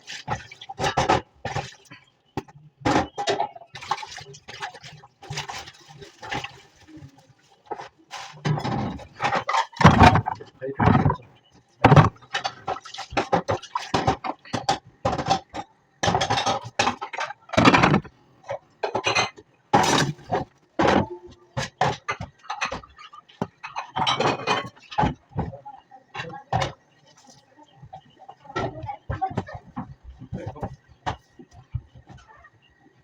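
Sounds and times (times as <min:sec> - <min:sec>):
dishes and utensils clattering: 0:00.2 - 0:32.3.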